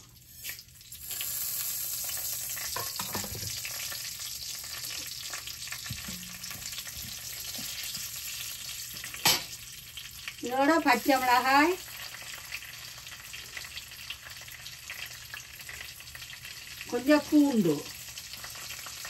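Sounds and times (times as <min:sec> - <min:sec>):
seeds sizzling in hot oil: 0:00.0 - 0:19.0.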